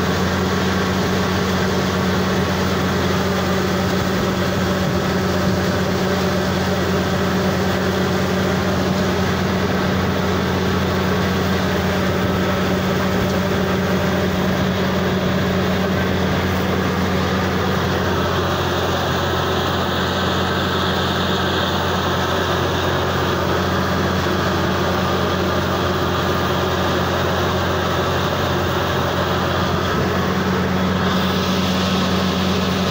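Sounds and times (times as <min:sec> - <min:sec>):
drilling rig engine humming: 0:00.0 - 0:32.9.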